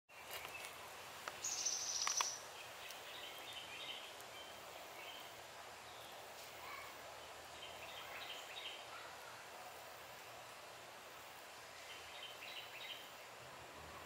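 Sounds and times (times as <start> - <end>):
small birds chirping: 0.1 - 10.6, 11.6 - 14.0.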